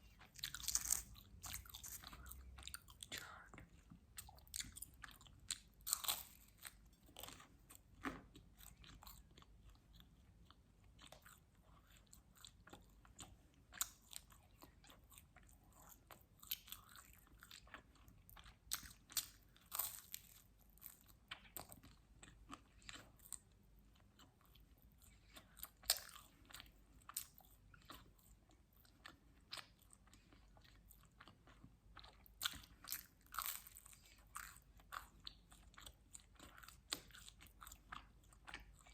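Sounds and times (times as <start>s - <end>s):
chewing and biting pizza: 0.1s - 38.9s.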